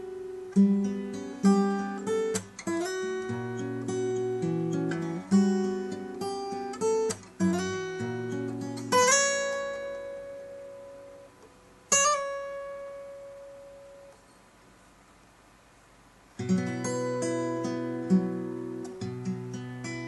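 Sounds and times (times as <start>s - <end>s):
nylon-string guitar playing: 0.0s - 14.2s, 16.4s - 20.0s.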